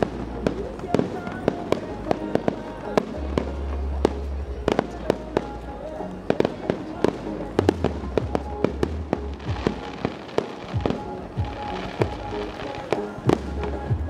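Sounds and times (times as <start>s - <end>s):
fireworks bangs and crackles: 0.0s - 5.7s, 6.3s - 14.0s.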